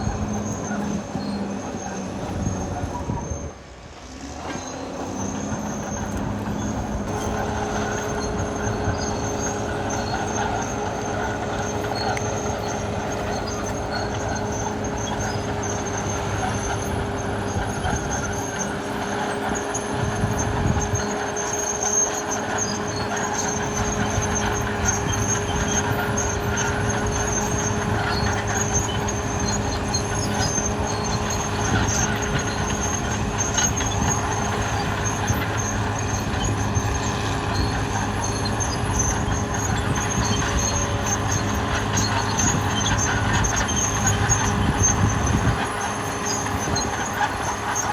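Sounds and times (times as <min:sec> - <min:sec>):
bulldozer diesel engine running: 0:00.0 - 0:47.9
steel tracks rumbling and squealing: 0:00.0 - 0:47.9.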